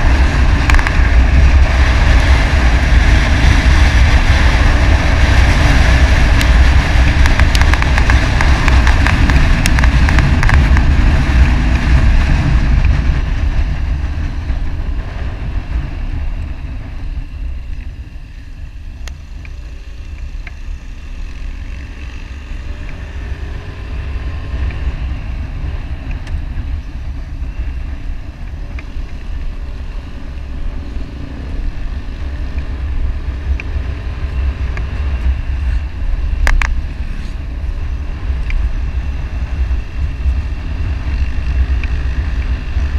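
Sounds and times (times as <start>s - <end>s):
motorcycle engine: 0.0s - 42.9s
wind buffeting microphone: 0.0s - 42.9s.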